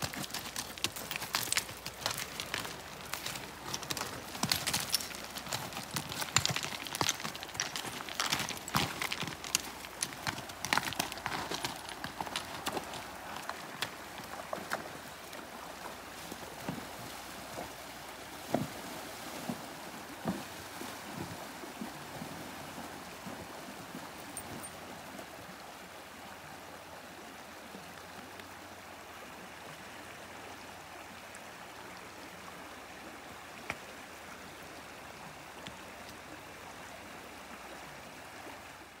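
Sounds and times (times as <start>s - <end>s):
creek water rushing: 0.0s - 39.0s
horse hooves splashing in creek: 0.0s - 39.0s.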